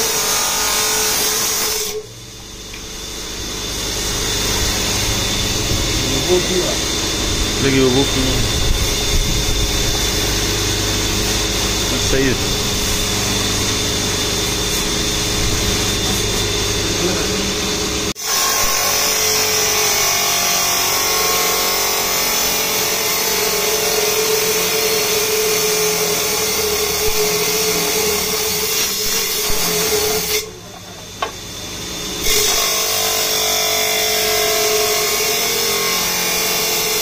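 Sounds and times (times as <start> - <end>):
saw motor running: 0.0 - 37.0
saw blade grinding through stone: 3.7 - 30.5, 32.2 - 37.0.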